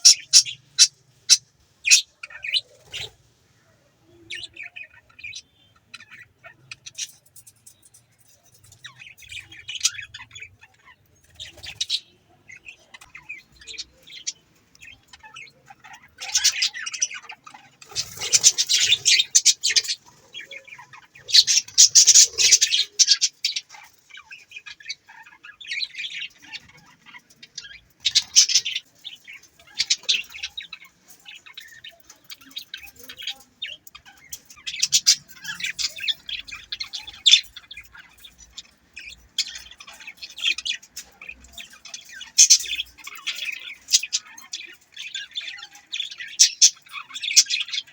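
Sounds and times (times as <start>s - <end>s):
budgerigars chirping: 0.0s - 3.2s, 4.2s - 7.4s, 8.8s - 47.9s.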